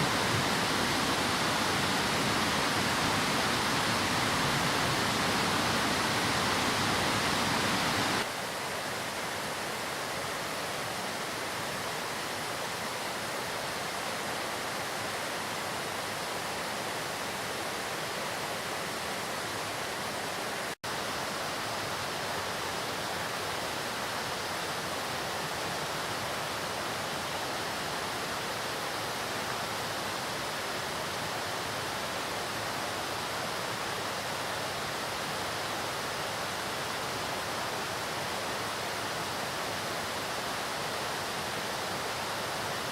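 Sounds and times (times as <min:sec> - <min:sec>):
waterfall rushing water: 0:00.0 - 0:42.9.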